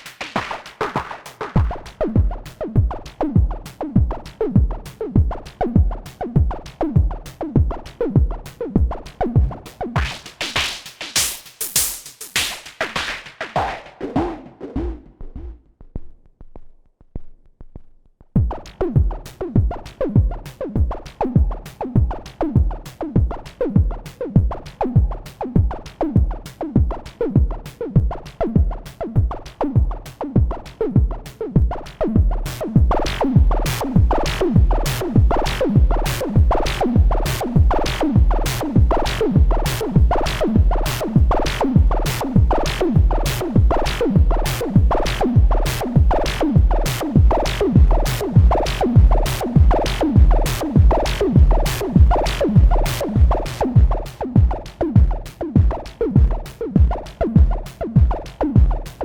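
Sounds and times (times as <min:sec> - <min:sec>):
electronic drum beat: 0:00.0 - 0:15.1, 0:18.4 - 0:59.0.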